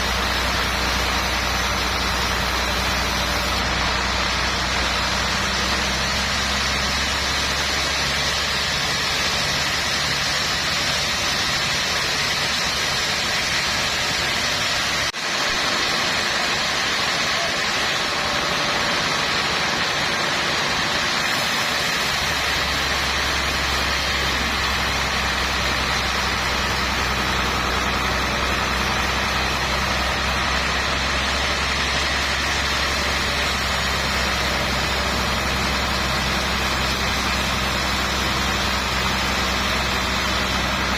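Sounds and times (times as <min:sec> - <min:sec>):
broad hiss: 0:00.0 - 0:40.9
sawmill machinery hum: 0:00.0 - 0:40.9.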